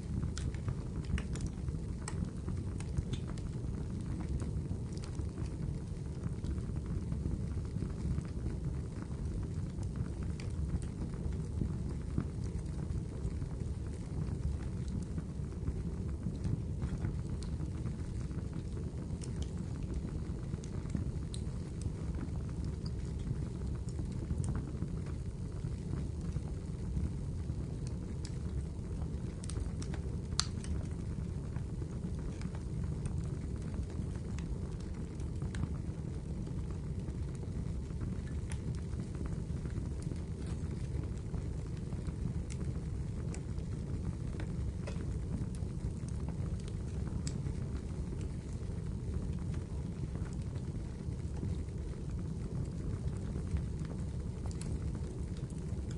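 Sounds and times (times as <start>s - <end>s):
low fire rumble: 0.0s - 55.9s
wood fire crackling and popping: 0.0s - 55.9s.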